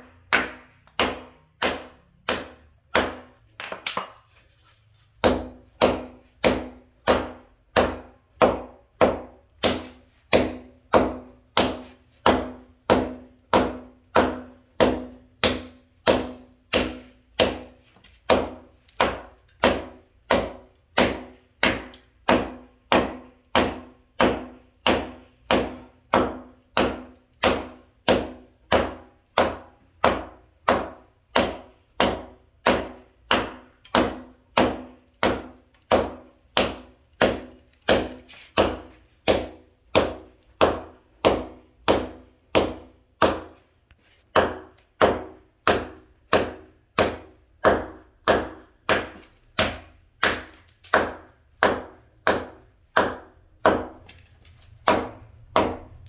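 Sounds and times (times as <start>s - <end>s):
hammer striking wall: 0.0s - 4.3s, 5.2s - 56.0s.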